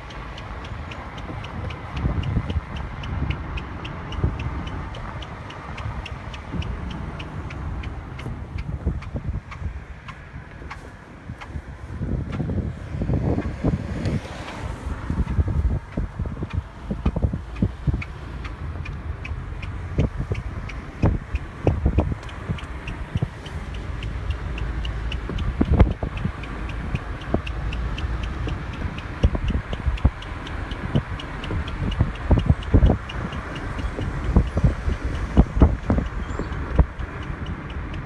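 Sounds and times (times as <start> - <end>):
low road rumble: 0.0 - 38.0.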